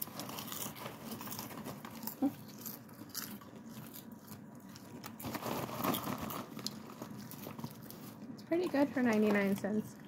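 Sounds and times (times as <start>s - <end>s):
person chewing crunchy popcorn: 0.0s - 10.0s.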